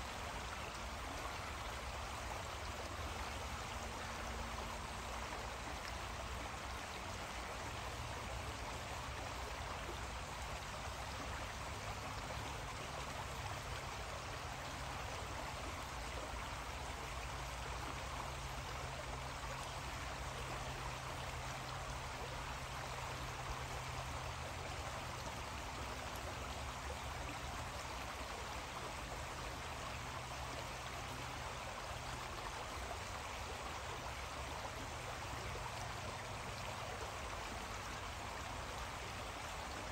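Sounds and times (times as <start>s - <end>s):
creek babbling: 0.0s - 39.9s.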